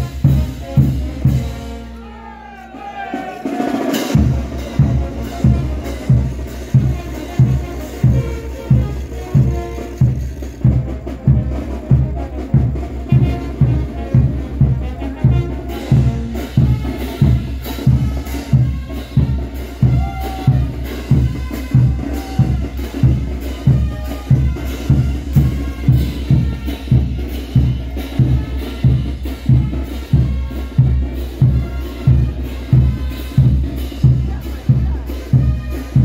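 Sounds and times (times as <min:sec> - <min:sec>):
bass drum beating: 0:04.1 - 0:36.0.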